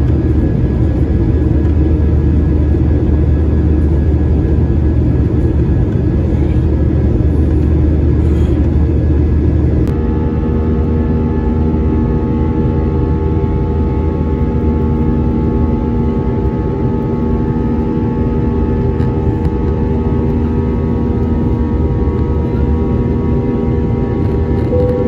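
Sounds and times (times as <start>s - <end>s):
airplane cabin rumble: 0.0s - 25.0s
whining engine tones: 0.0s - 25.0s.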